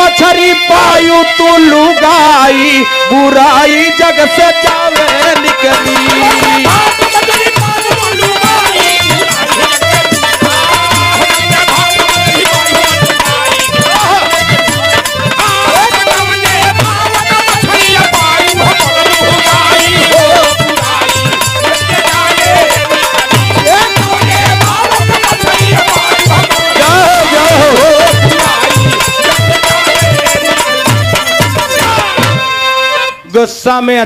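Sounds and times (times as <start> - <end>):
harmonium: 0.0 - 34.0
hand drum rhythm: 4.6 - 32.6.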